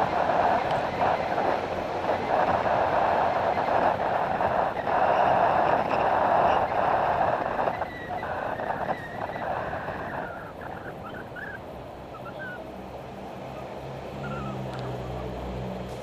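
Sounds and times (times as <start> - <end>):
rushing road noise in tunnel: 0.0 - 16.0.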